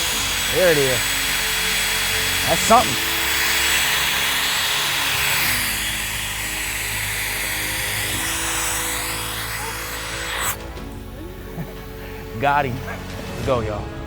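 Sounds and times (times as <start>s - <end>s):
power drill motor running: 0.0s - 12.4s.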